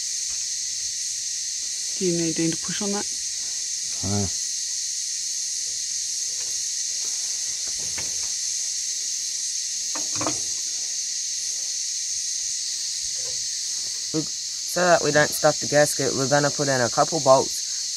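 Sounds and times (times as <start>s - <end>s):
high-pitched insect drone: 0.0s - 17.9s.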